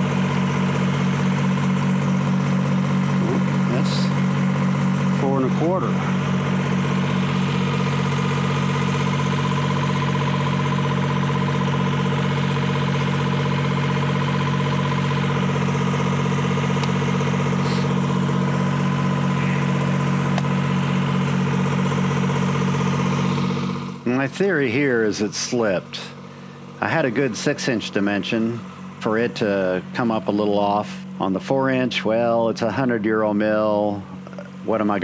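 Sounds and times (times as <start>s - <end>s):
diesel engine running steadily: 0.0s - 35.0s.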